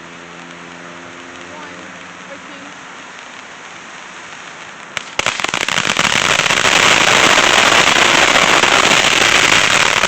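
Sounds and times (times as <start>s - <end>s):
sparkler hissing and crackling: 0.0s - 10.0s.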